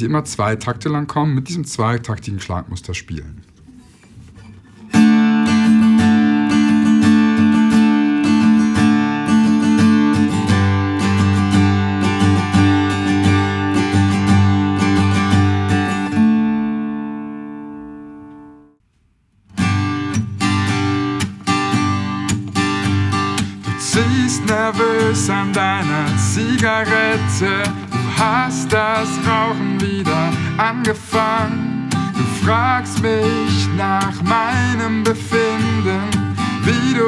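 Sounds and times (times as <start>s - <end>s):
acoustic guitar strumming: 3.7s - 18.8s, 19.4s - 37.0s.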